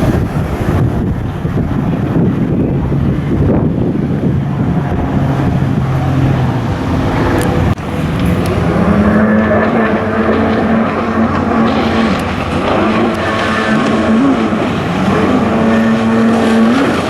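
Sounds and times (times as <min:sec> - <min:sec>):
jet ski engines racing: 0:00.0 - 0:17.0
wind on microphone: 0:00.0 - 0:17.0.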